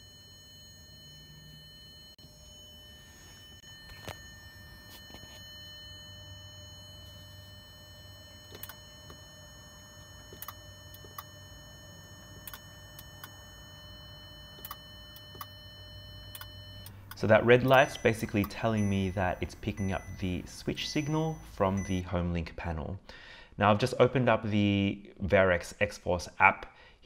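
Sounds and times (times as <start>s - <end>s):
faint high electronic whine: 0.0s - 22.1s.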